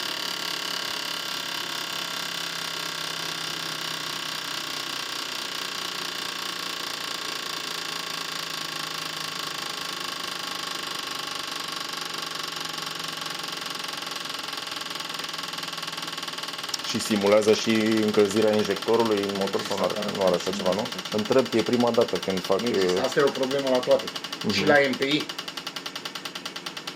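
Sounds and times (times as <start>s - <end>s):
ultrasonic cleaner whine: 0.0s - 26.9s.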